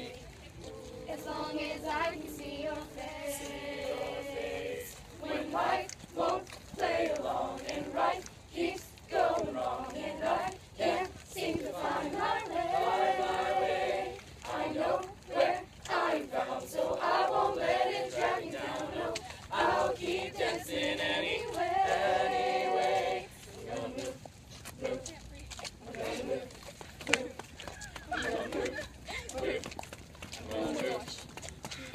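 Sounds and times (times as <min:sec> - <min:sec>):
girls singing together: 0:00.0 - 0:24.2, 0:25.8 - 0:29.8.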